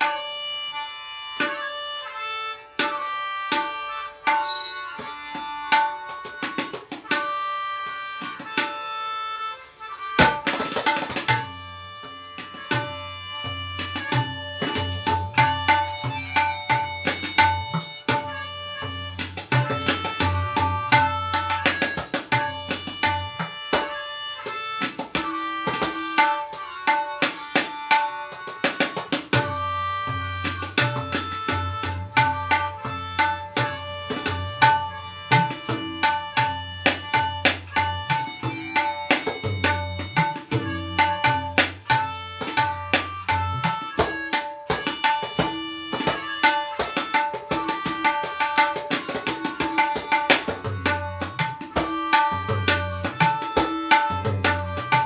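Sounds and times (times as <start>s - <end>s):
tabla treble drum strokes: 0.0s - 9.0s, 10.1s - 55.0s.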